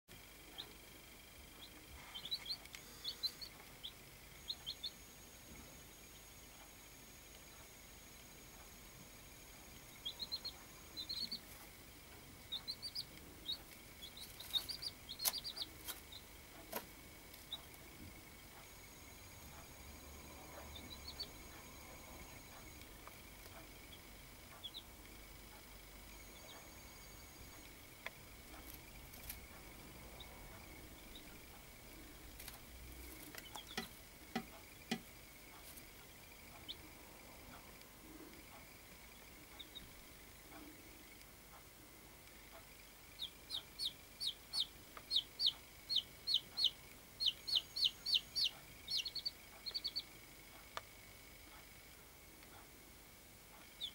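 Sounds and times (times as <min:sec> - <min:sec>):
baby chicks peeping: 0:00.1 - 0:52.8, 0:53.5 - 0:53.9.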